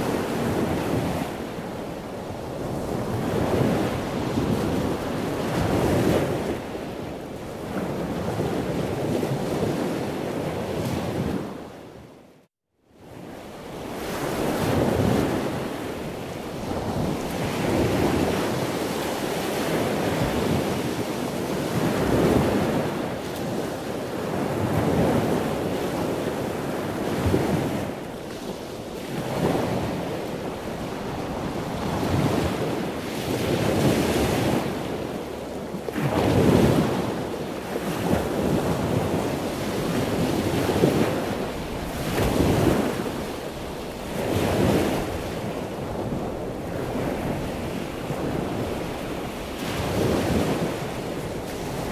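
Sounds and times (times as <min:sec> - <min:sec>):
ocean surf on sandy beach: 0:00.0 - 0:12.2, 0:13.0 - 0:51.9
wind noise on microphone: 0:00.0 - 0:51.9.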